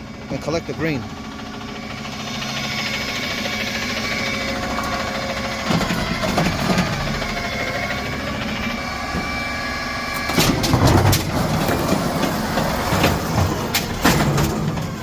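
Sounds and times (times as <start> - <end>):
hydraulic whine: 1.7 - 15.0.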